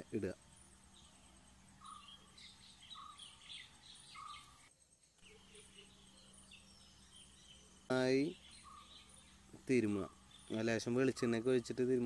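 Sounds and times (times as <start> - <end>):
faint bird chirps: 0.0 - 12.0
low steady hum: 0.0 - 12.0.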